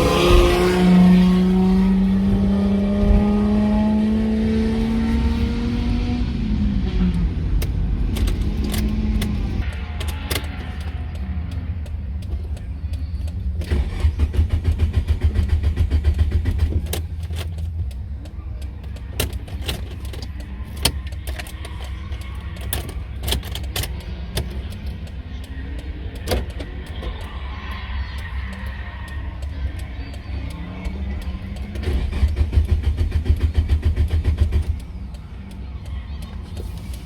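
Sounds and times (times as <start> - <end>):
car engine rumbling: 0.0 - 37.0.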